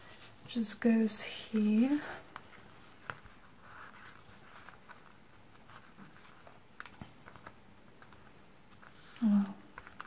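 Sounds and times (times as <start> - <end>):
soft paper rustle: 0.0 - 10.0.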